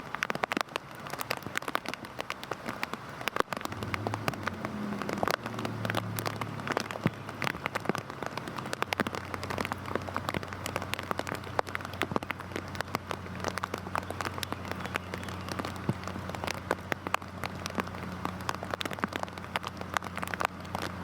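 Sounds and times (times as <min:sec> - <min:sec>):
heavy rain on a hard surface: 0:00.0 - 0:21.0.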